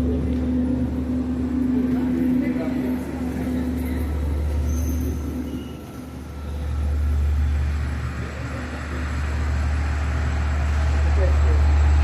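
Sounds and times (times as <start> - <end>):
train rumbling in motion: 0.0 - 12.0.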